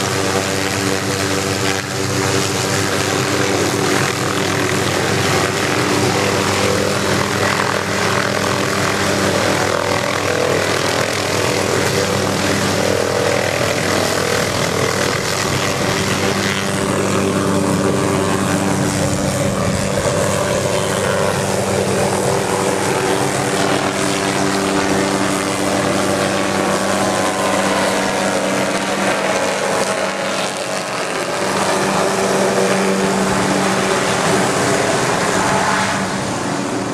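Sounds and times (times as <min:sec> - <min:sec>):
helicopter engine and rotor: 0:00.0 - 0:36.9.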